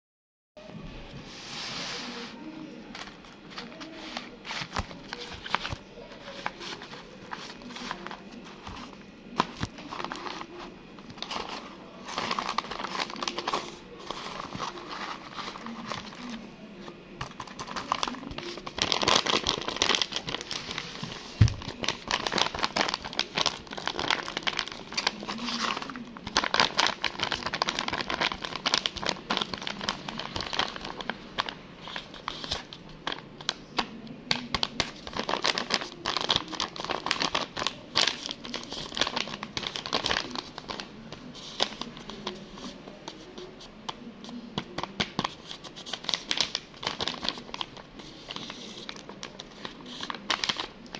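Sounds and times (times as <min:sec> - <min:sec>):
paper bags crinkling: 0:02.1 - 0:50.9.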